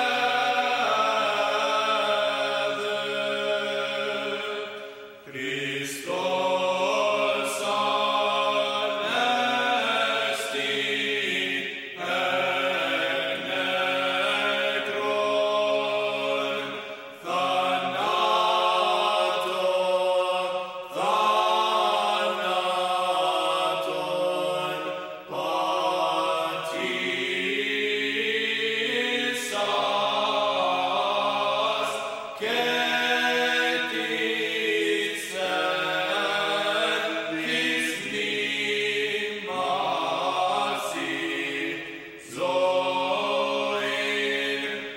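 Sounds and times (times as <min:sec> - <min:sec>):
choir chanting: 0:00.0 - 0:44.9.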